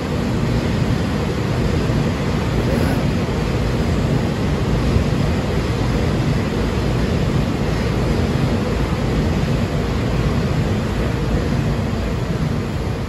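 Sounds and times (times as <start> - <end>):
low rumbling of railway platform: 0.0 - 13.0.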